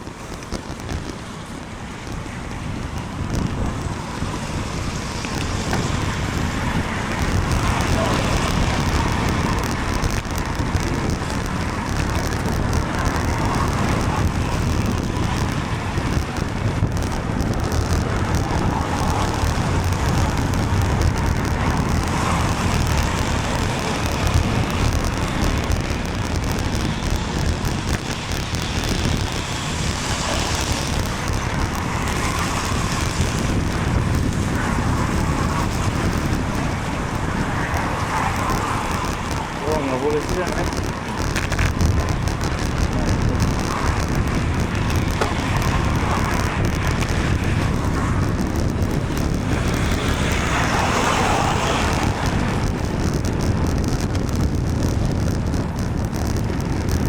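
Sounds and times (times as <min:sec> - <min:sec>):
wet road traffic noise: 0:00.0 - 0:57.0
wind rushing on microphone: 0:00.0 - 0:57.0.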